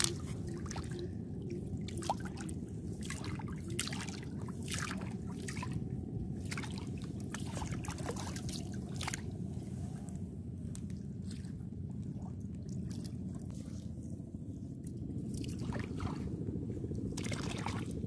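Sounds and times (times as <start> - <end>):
low background rumble: 0.0 - 18.0
seawater splashing and trickling: 0.0 - 18.0.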